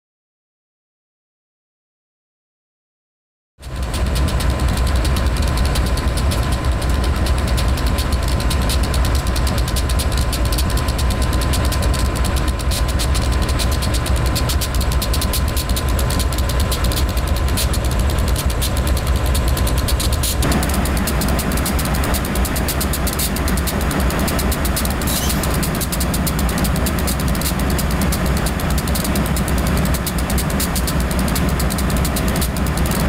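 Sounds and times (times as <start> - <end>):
diesel locomotives rumbling: 3.6 - 33.0
thin steady whine: 3.6 - 33.0.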